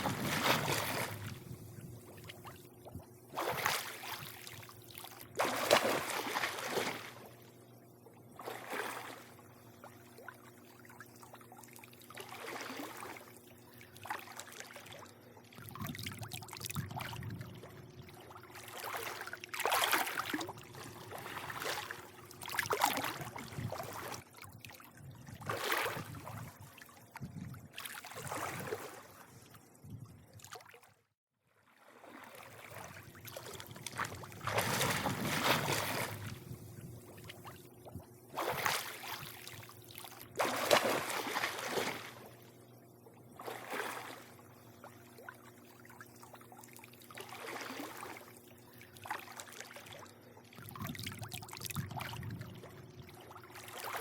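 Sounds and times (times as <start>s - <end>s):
faint steady hum: 0.0s - 31.1s, 31.7s - 54.0s
pool water lapping and splashing: 0.0s - 54.0s.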